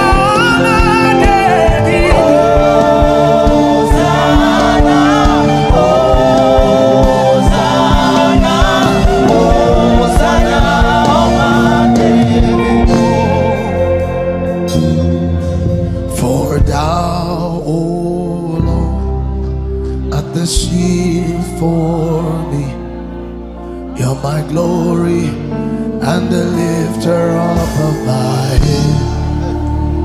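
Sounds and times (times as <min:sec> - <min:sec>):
gospel singing over a band: 0:00.0 - 0:30.0.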